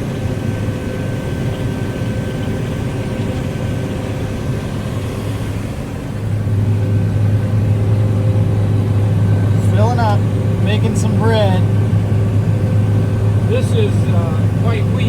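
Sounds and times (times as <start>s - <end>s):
faint machine whines: 0.0s - 15.0s
low machine drone: 0.0s - 15.0s.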